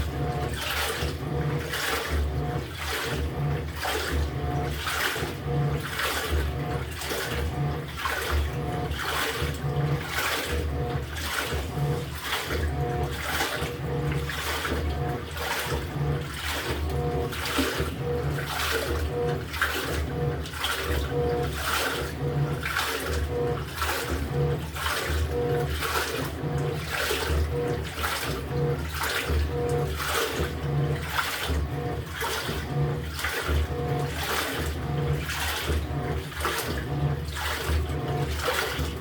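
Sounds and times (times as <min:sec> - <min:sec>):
washing machine agitating: 0:00.0 - 0:39.0
water splashing: 0:00.0 - 0:39.0.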